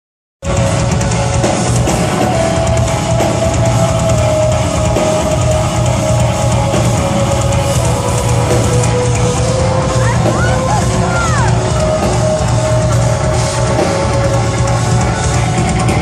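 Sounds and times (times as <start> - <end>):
metalcore band playing live: 0.4 - 16.0.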